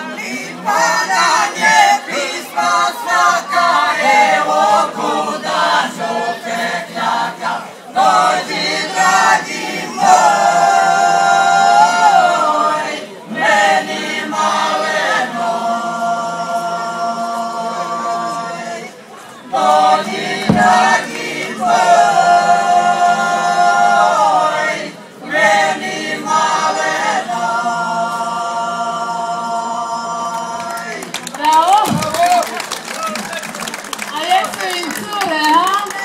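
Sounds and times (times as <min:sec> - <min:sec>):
mixed choir singing unaccompanied: 0:00.0 - 0:31.1.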